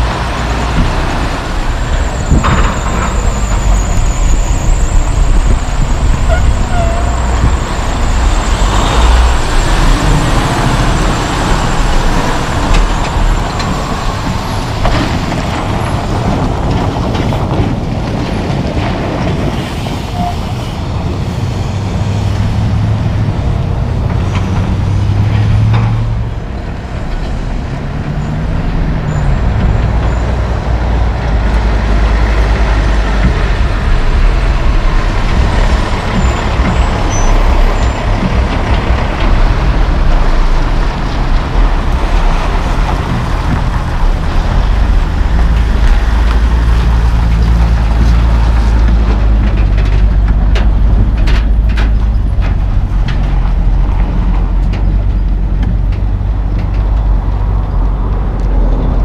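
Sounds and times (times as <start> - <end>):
diesel truck engines rumbling: 0.0 - 59.0.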